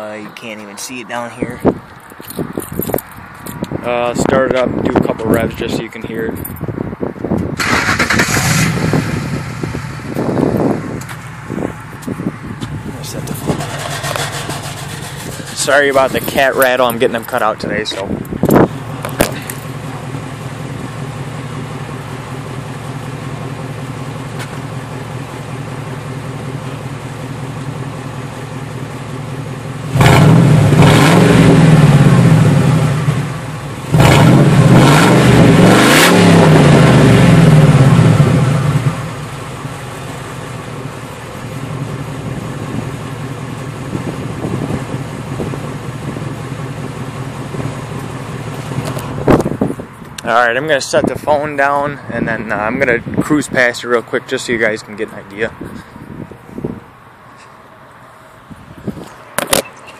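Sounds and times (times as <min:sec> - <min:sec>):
loud engine idling and revving: 0:00.0 - 0:57.1
rattle under engine: 0:01.4 - 0:50.3.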